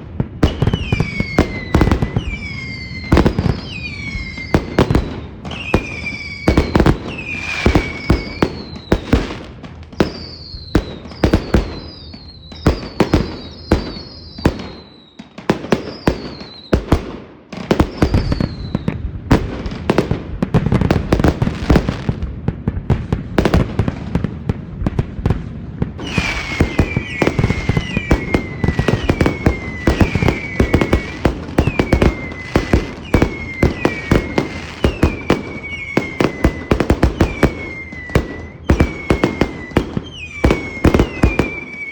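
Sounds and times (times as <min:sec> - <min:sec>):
falling firework whistles: 0:00.0 - 0:19.1, 0:26.0 - 0:41.9
firework crackling: 0:00.0 - 0:41.9
fireworks bangs: 0:00.0 - 0:41.9.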